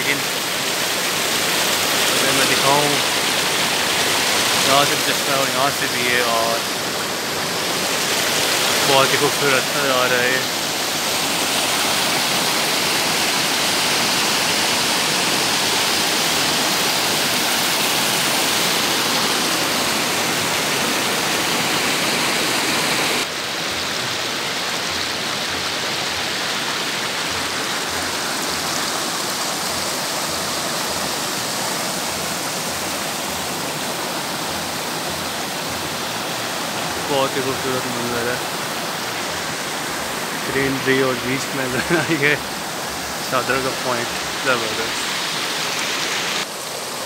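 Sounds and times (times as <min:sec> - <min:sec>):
water rushing over rocks: 0:00.0 - 0:47.0.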